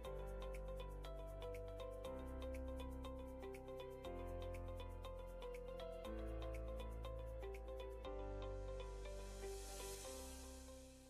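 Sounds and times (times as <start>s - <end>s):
light ticking beat: 0.0s - 10.8s
background music with sustained chords: 0.0s - 11.0s.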